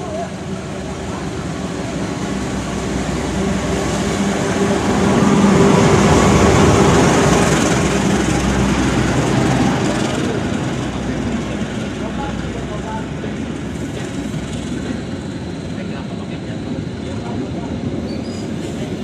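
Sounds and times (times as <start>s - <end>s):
diesel locomotive engine drone: 0.0s - 19.0s
train carriages rumbling by: 0.0s - 19.0s.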